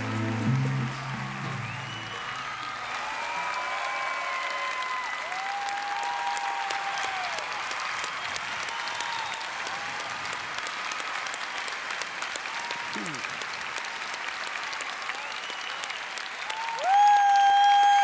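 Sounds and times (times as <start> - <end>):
audience applauding: 0.0 - 18.0
people cheering: 0.0 - 18.0.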